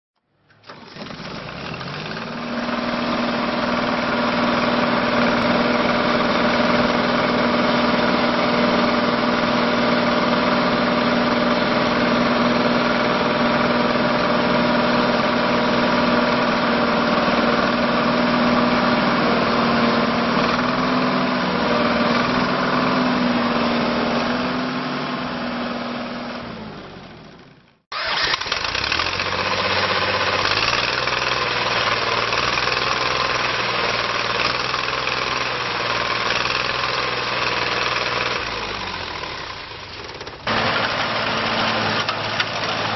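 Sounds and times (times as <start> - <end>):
trencher engine idling: 0.5 - 42.9.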